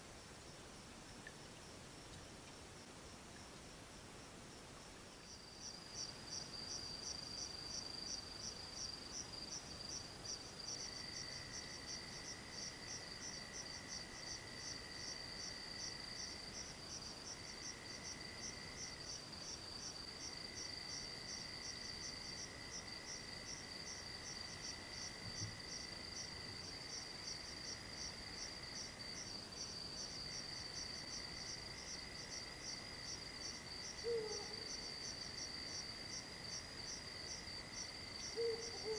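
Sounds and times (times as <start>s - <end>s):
rapid insect chirping: 4.2s - 38.9s.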